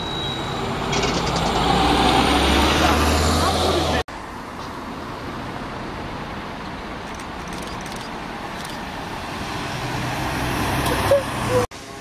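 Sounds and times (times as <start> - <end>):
bus engine and tyres: 0.0 - 12.0
road traffic noise: 0.0 - 12.0.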